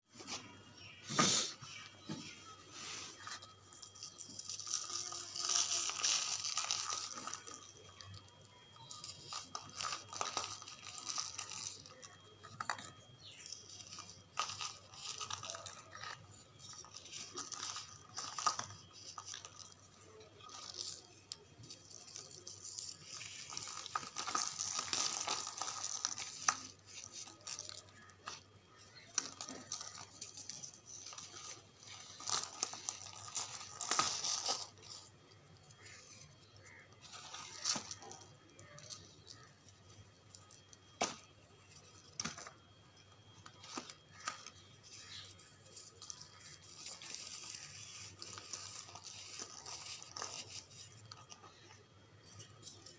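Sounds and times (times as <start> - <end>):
charcoal crumbling and crackling: 2.8 - 52.9.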